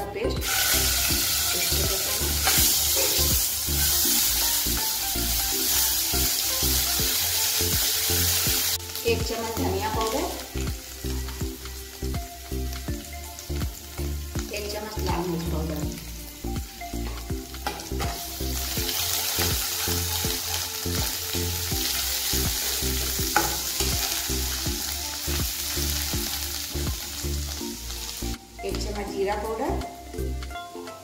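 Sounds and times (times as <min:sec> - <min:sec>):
spices sizzling in hot oil: 0:00.2 - 0:31.0.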